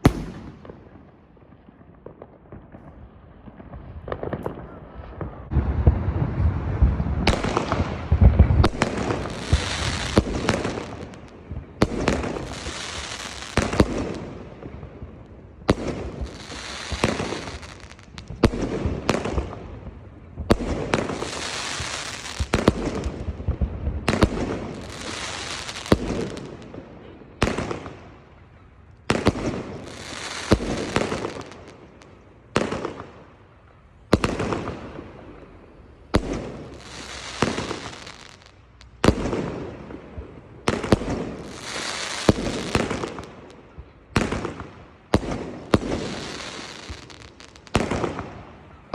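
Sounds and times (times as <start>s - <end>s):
fireworks bangs: 0.0s - 33.4s, 34.0s - 48.9s
fireworks hissing crackling tails: 1.5s - 28.1s, 29.0s - 33.4s, 34.0s - 48.9s.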